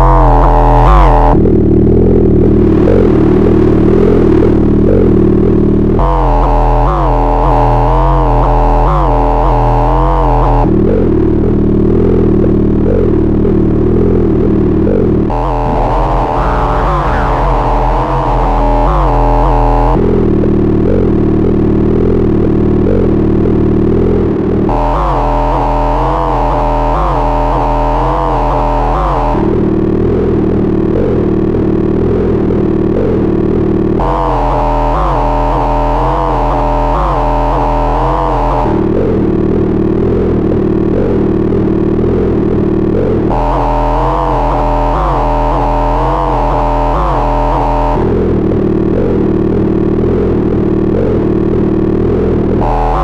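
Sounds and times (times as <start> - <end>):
distorted synthesizer drone: 0.0 - 53.0.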